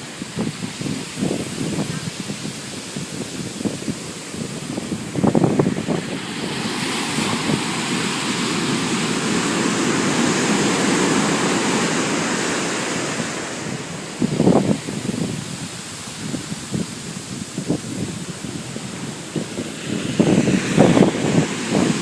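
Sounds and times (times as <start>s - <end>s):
ocean wave rushing hiss: 0.0s - 22.0s
wind buffeting microphone: 0.0s - 22.0s.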